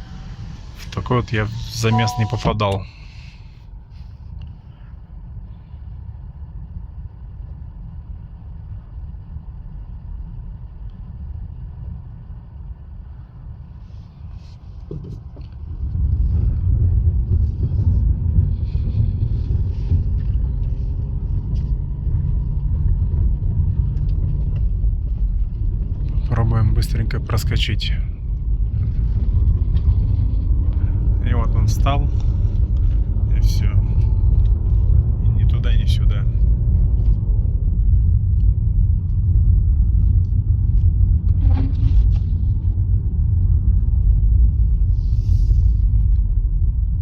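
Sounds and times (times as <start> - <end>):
car driving on snow: 0.0 - 47.0.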